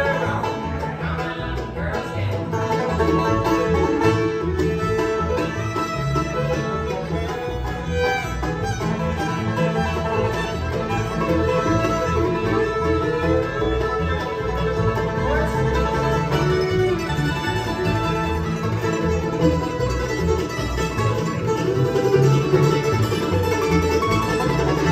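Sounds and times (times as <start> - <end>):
banjo playing: 0.0 - 24.9
bass line: 0.0 - 24.9
bluegrass band playing: 0.0 - 24.9.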